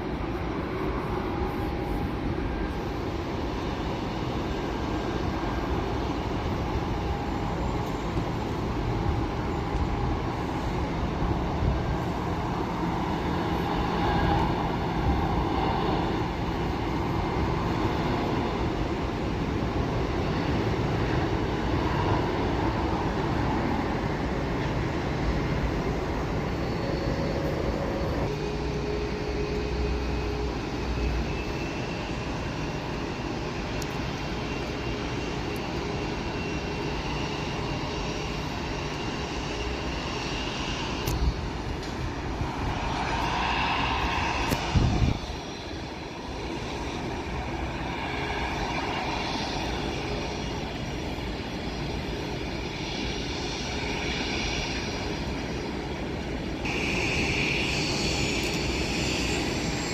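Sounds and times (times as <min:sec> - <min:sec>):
faint engine whine: 0:00.0 - 0:59.9
jet engines rumbling: 0:00.0 - 0:59.9.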